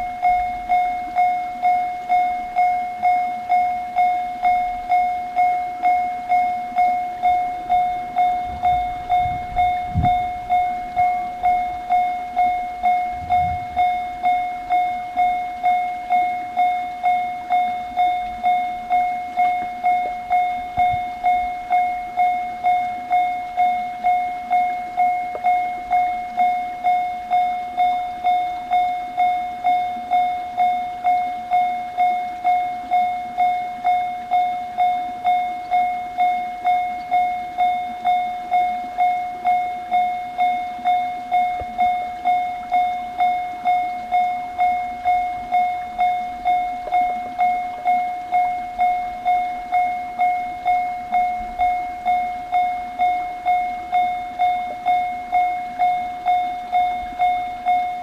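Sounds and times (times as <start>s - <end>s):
level crossing alarm ringing: 0.0s - 58.0s.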